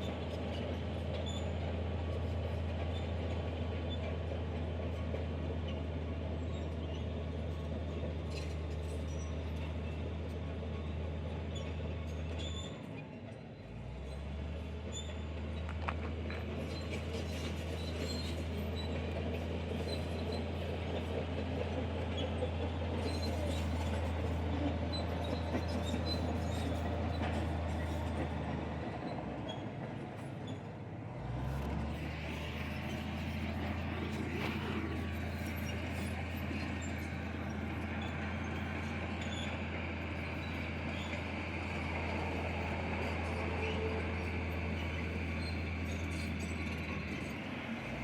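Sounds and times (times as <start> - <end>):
heavy machinery diesel engine droning: 0.0 - 48.0.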